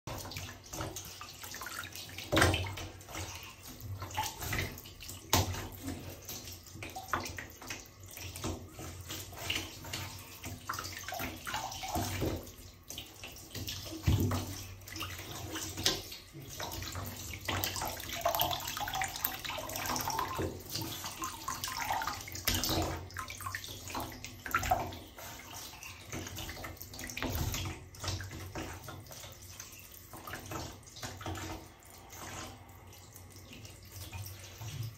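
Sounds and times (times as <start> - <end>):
water sloshing against tub: 0.0 - 34.9.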